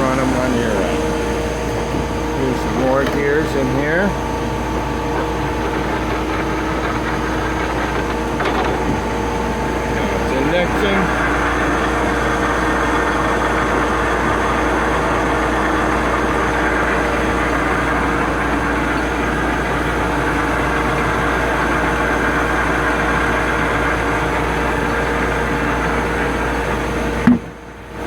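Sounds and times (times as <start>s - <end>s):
gear grinder machine whirring: 0.0s - 28.0s.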